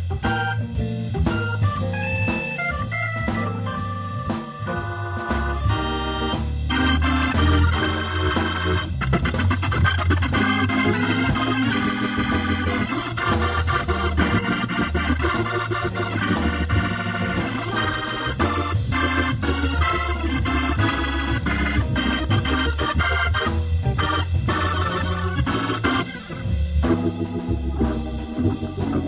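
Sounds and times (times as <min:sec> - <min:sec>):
drum kit cymbals: 0:00.0 - 0:29.0
organ playing jazz: 0:00.0 - 0:29.0.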